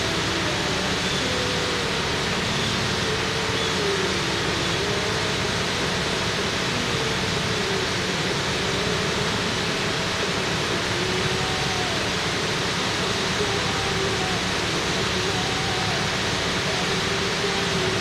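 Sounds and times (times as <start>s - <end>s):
faint wavering hum: 0.0s - 18.0s
steady rushing noise: 0.0s - 18.0s.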